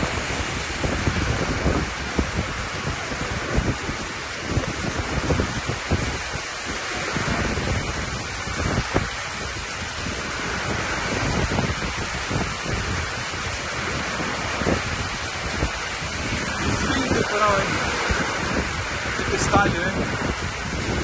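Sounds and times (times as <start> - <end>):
heavy rain: 0.0 - 21.0
water pouring off roof edge: 0.0 - 21.0
wind buffeting microphone: 0.0 - 21.0.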